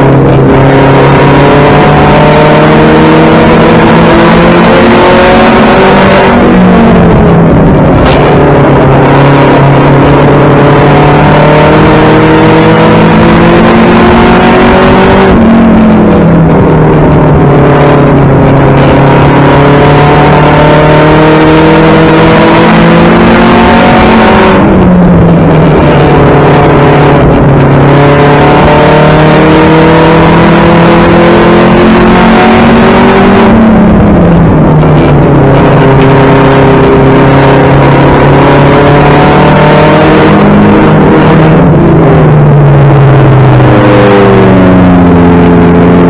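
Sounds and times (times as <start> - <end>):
car engine pulling hard: 0.0 - 46.0
road and wind noise: 0.0 - 46.0.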